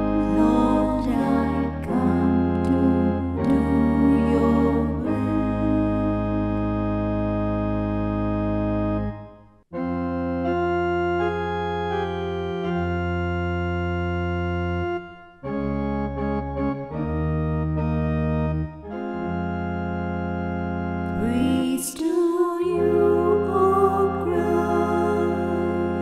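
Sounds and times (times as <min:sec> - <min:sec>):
organ playing sustained chords: 0:00.0 - 0:26.0.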